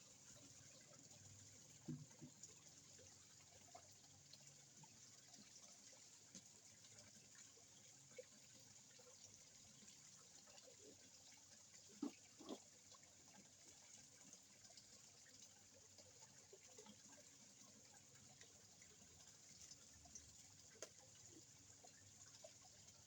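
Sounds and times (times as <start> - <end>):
faint pond water sounds: 0.0 - 23.0.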